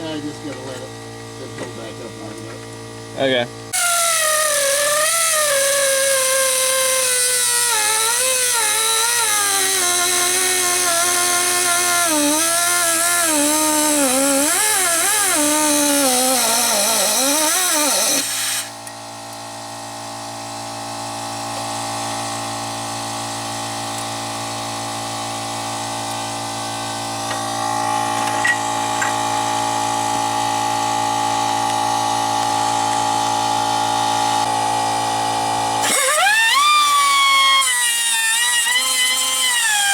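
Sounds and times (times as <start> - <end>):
pneumatic cutting tool whining: 3.7 - 19.4, 20.6 - 39.9.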